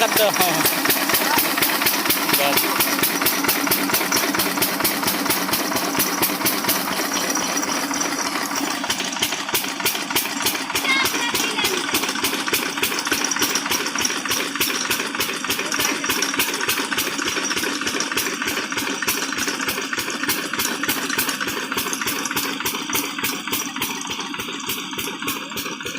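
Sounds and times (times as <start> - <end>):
diesel engine driving water pump: 0.0 - 25.9.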